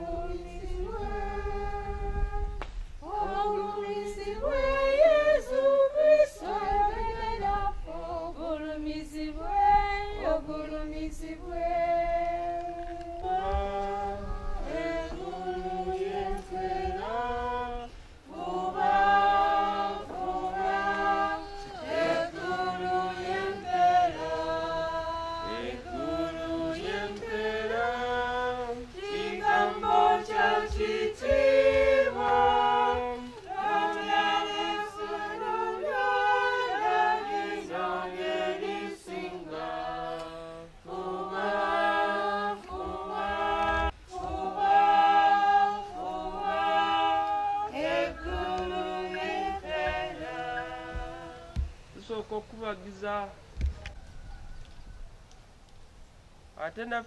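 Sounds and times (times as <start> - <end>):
choir singing unaccompanied: 0.0 - 52.3.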